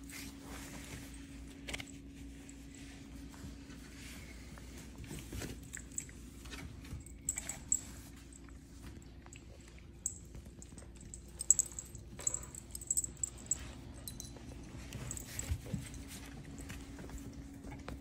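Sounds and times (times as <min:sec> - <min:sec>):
puppies chewing and mouthing: 0:00.1 - 0:18.0.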